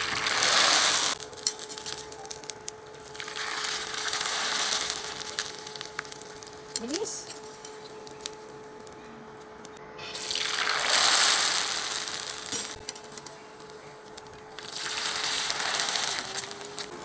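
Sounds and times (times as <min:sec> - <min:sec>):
noodles sizzling in hot oil: 0:00.0 - 0:17.0.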